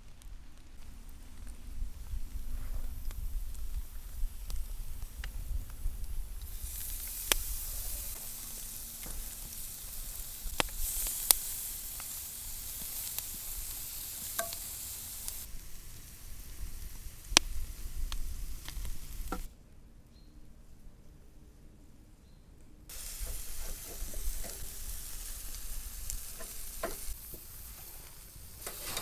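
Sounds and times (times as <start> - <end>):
sharp pops and crackles: 0.0 - 19.5, 22.9 - 29.0
food sizzling in a pan: 2.0 - 19.5, 22.9 - 29.0.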